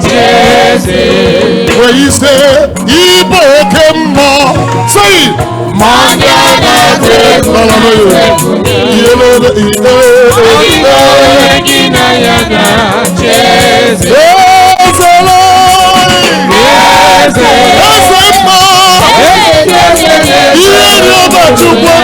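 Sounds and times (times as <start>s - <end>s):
people singing together: 0.0s - 22.0s
percussion: 0.0s - 22.0s.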